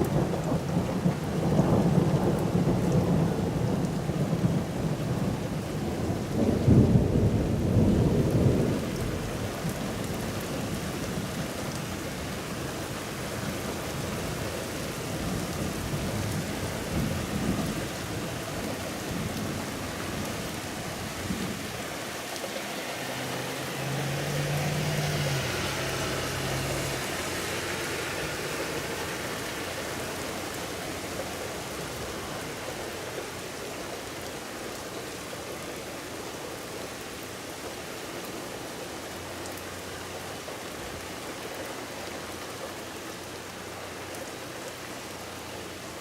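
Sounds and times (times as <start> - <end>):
rain hissing on surfaces: 0.0 - 46.0.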